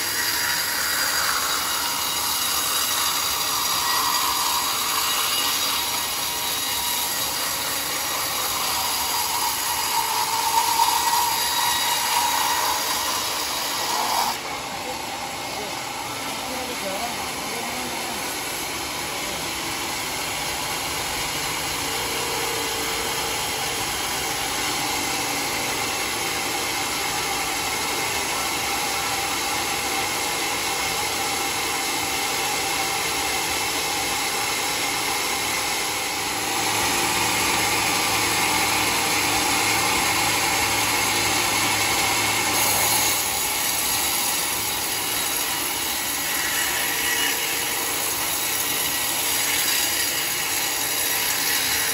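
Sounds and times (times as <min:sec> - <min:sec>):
band sawmill cutting log: 0:00.0 - 0:51.9.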